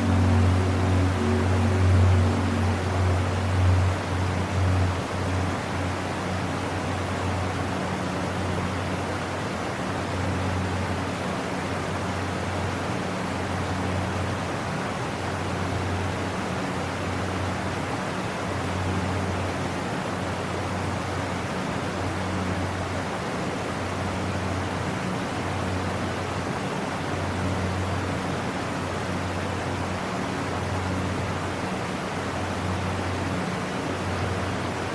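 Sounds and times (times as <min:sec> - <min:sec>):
waterfall roar: 0:00.0 - 0:34.9.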